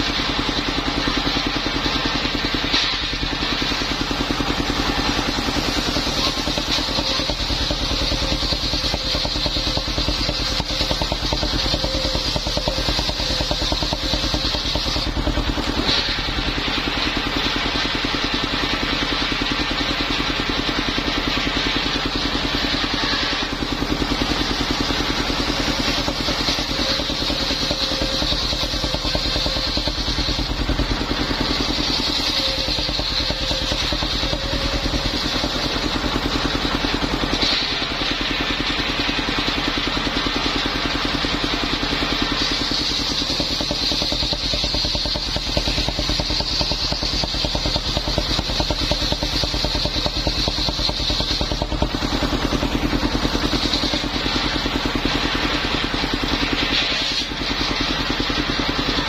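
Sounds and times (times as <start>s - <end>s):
high hiss of saw: 0.0s - 59.0s
sawmill engine running: 0.0s - 59.0s.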